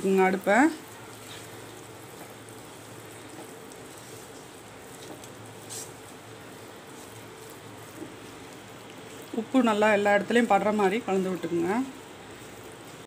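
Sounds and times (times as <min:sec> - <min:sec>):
batter sizzling faintly in a pan: 0:00.0 - 0:13.0.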